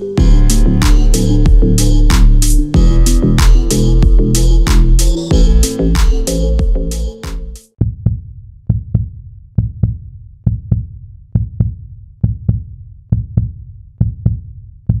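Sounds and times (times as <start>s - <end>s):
music of deep double thumps: 0.2s - 15.0s.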